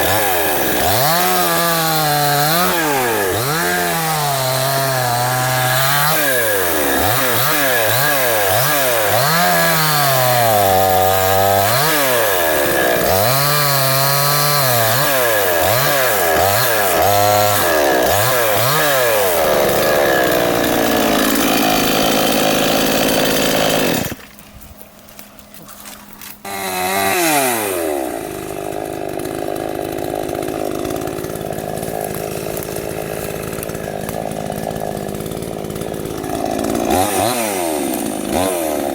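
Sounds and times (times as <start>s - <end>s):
chainsaw revving and idling: 0.0s - 24.2s, 25.6s - 38.9s.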